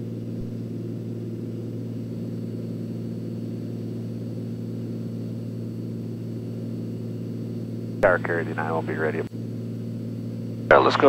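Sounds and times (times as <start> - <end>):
airplane engine droning in cabin: 0.0 - 11.0.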